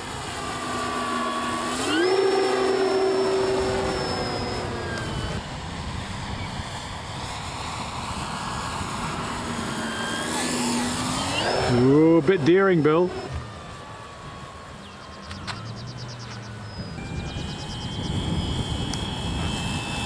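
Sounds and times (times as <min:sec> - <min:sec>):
model jet fan whine: 0:00.0 - 0:20.0.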